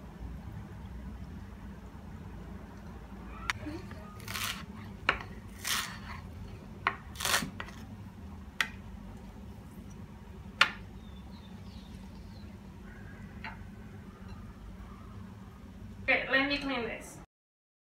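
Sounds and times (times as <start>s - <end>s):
low steady hum: 0.0s - 17.3s.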